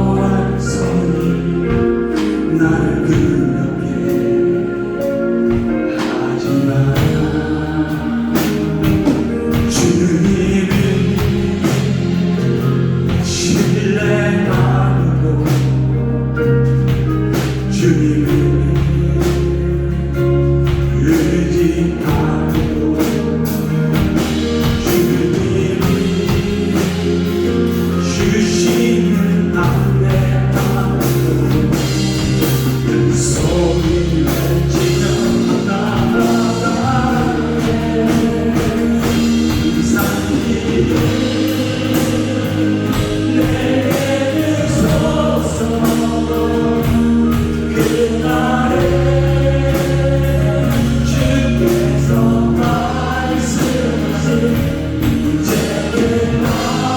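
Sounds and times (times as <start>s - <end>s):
drums keeping a steady beat: 0.0s - 56.9s
people singing: 0.0s - 56.9s
praise band playing worship song: 0.0s - 56.9s.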